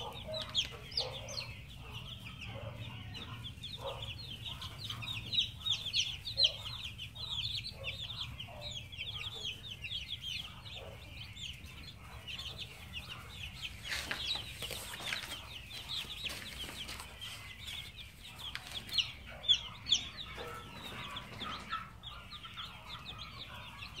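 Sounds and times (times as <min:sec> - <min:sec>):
chickens clucking: 0:00.0 - 0:24.0
chicks peeping: 0:00.0 - 0:24.0.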